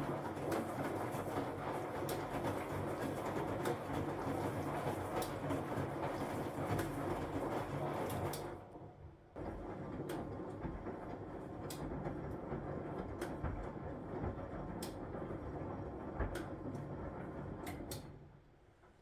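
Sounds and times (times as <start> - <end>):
washing machine drum tumbling: 0.0 - 18.4
laundry and water churning: 0.0 - 19.0.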